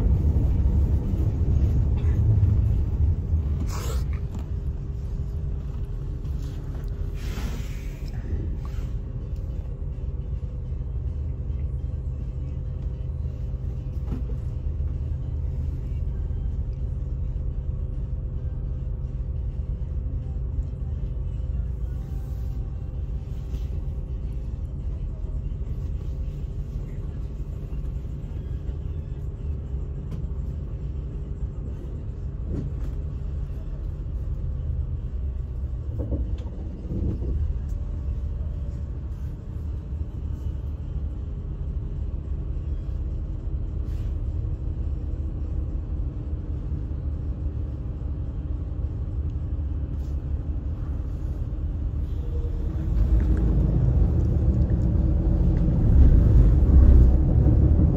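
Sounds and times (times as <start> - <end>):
bus engine idling and revving: 0.0 - 57.9.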